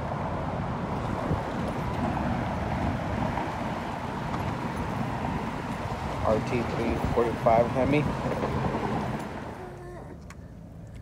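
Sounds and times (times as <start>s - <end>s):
wind buffeting microphone: 0.0s - 9.6s
car engine rumbling: 0.0s - 11.0s.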